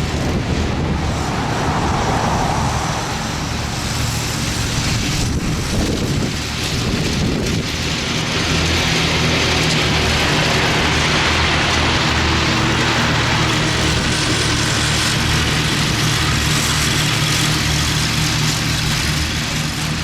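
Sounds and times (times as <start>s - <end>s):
rushing noise: 0.0s - 18.5s
mower engine running: 0.0s - 20.0s.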